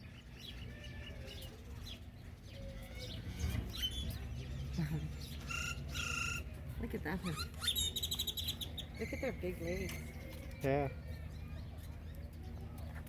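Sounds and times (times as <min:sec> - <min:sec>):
held bird call: 0:00.0 - 0:06.5, 0:07.3 - 0:12.1
birds chirping: 0:00.0 - 0:13.0.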